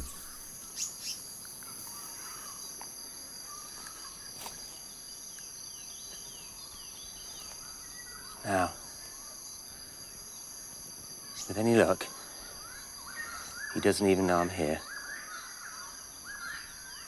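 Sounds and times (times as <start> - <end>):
insect trilling: 0.0 - 17.0.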